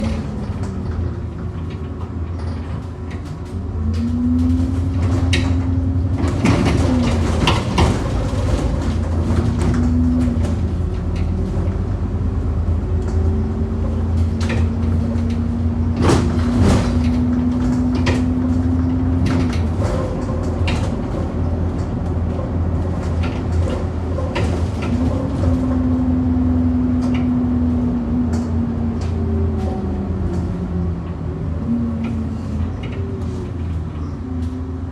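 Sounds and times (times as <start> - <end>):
bus knocking over potholes: 0.0 - 34.9
bus whine: 0.0 - 34.9
low engine drone: 0.0 - 34.9.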